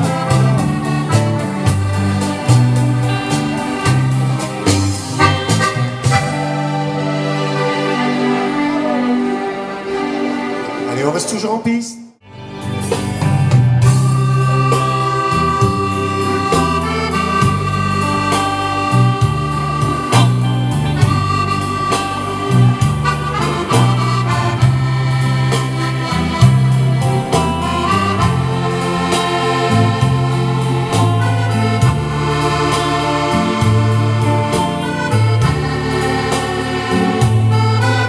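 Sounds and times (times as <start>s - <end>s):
steady percussion beat: 0.0s - 6.6s, 12.8s - 38.0s
bass line: 0.0s - 9.2s, 12.2s - 38.0s
button accordion dance music: 0.0s - 11.4s, 12.5s - 38.0s.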